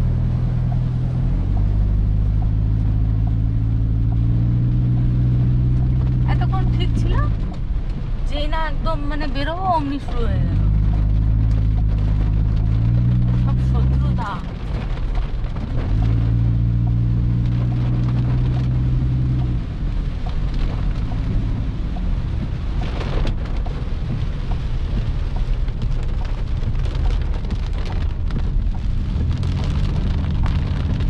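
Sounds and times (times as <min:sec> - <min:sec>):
heavy rain pattering: 0:00.0 - 0:31.0.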